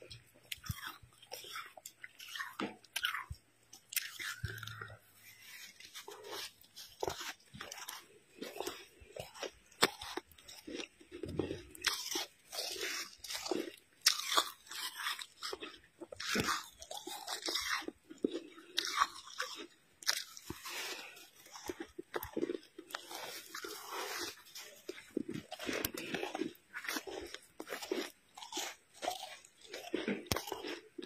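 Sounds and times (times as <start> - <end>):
snow crunching while chewed: 0.5 - 31.0.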